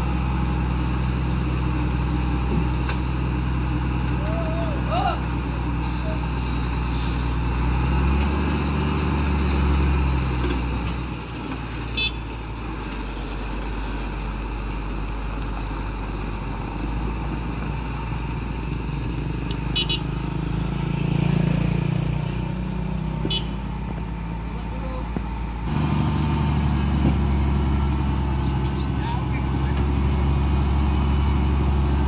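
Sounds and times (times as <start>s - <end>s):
heavy diesel truck engine: 0.0s - 32.0s.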